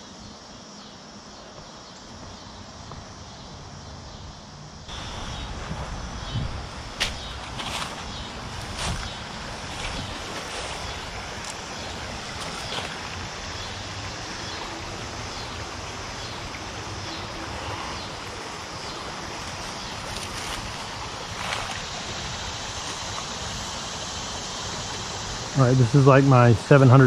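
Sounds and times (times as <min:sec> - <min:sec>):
creek water rushing: 0:04.9 - 0:27.0.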